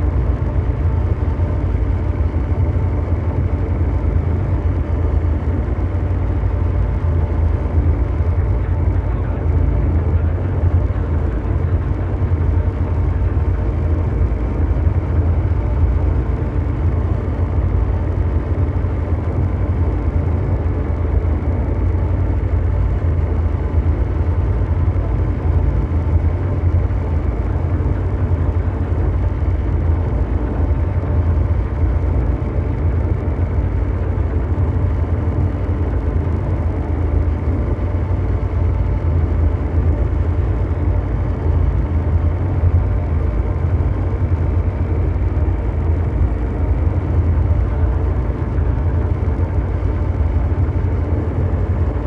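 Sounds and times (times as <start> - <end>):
low mechanical rumble: 0.0 - 52.0.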